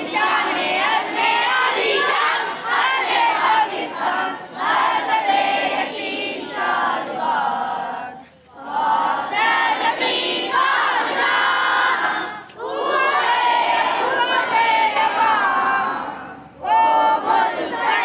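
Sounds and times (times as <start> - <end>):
boys singing in unison: 0.0 - 18.0.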